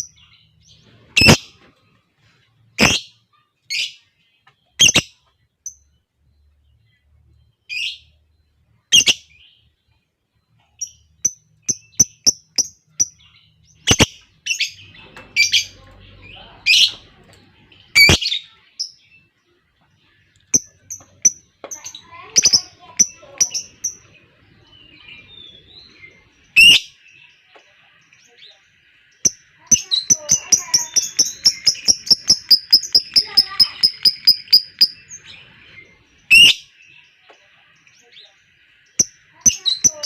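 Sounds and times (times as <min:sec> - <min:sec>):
lovebirds chirping and shrieking: 0:00.0 - 0:40.0.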